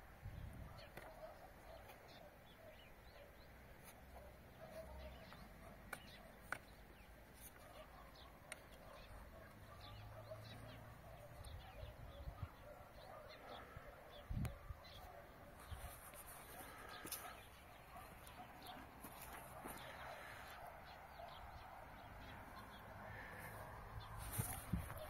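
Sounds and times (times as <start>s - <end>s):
distant birds chirping: 0.4s - 25.0s.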